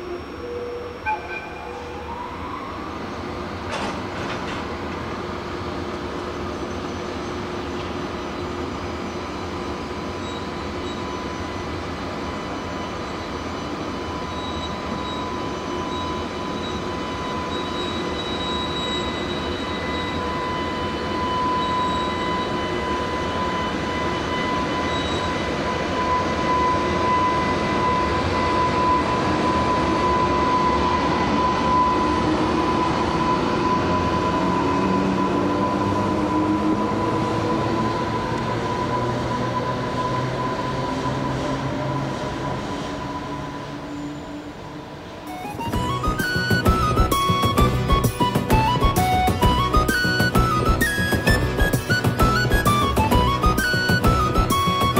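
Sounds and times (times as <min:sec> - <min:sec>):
locomotive whine: 0:00.0 - 0:54.9
train running rumble: 0:03.0 - 0:54.9.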